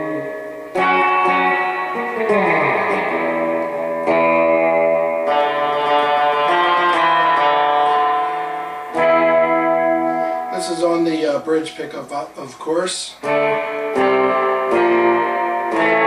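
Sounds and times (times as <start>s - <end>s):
electric guitar chords: 0.0s - 16.0s.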